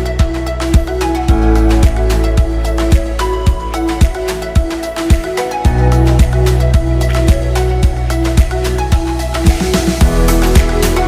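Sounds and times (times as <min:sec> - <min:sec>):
electronic music with mallet notes: 0:00.0 - 0:11.0
kick drum beat: 0:00.2 - 0:10.8.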